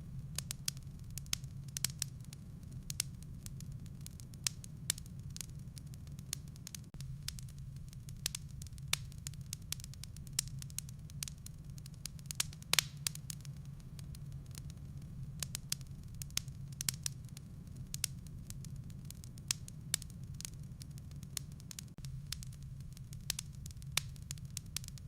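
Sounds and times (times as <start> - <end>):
low rumble of fire: 0.0 - 25.0
wood fire crackling and popping: 0.1 - 25.0.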